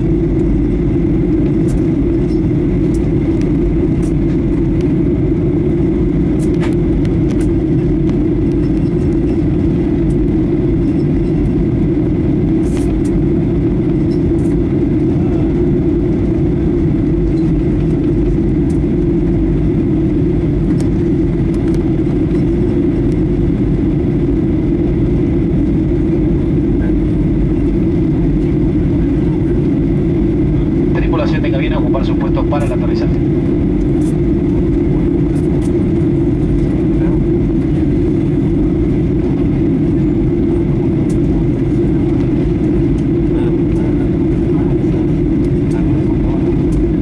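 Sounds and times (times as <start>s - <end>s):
airplane cabin engine drone: 0.0s - 47.0s.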